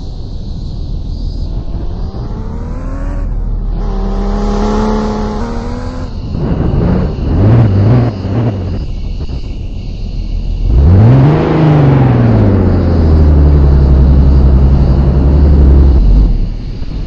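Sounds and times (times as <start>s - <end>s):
vehicle engine revving: 1.1s - 9.7s, 10.3s - 17.0s.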